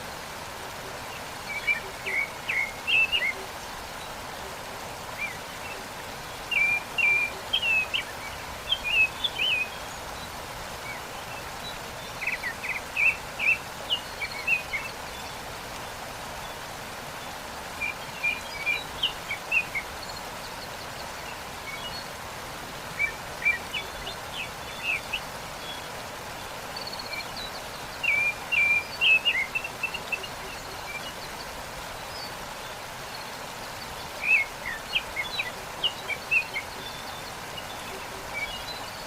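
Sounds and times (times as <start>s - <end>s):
waterfall rushing: 0.0s - 39.0s
songbird chirping: 0.8s - 22.2s, 22.8s - 39.0s.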